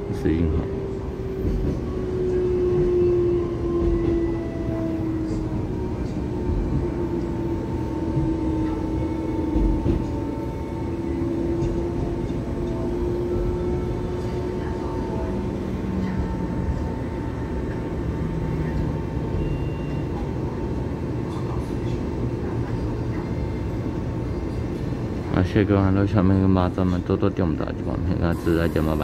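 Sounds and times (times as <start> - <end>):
electric train whine: 0.0 - 27.8
train wheels rumbling on track: 0.0 - 29.0.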